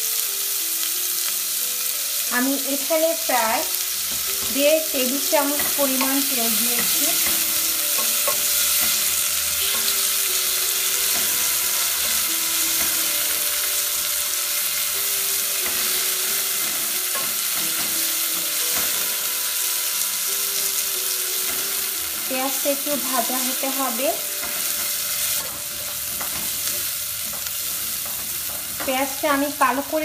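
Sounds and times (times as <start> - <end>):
onions sizzling in oil: 0.0 - 30.0.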